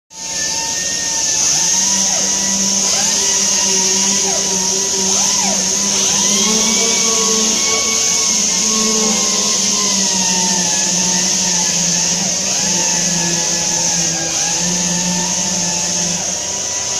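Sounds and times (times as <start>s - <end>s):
compressed air hissing: 0.2s - 16.9s
machine hum: 0.2s - 16.9s.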